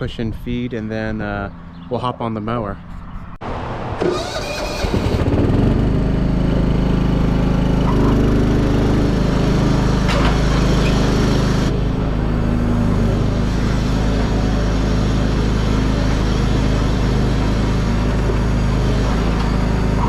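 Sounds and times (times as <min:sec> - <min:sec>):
engine running: 0:02.8 - 0:20.0.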